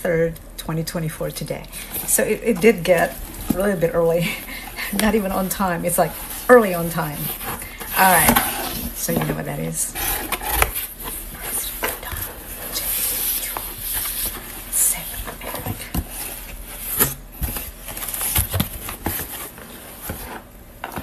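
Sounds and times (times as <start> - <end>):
cardboard package rustling and tearing: 1.7 - 21.0.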